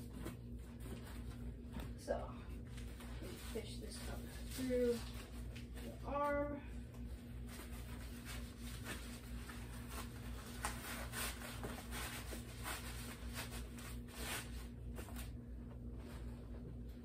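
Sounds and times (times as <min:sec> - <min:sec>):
costume fabric rustling and crinkling: 0:00.0 - 0:06.5, 0:07.1 - 0:17.0
steady low hum: 0:00.0 - 0:17.0.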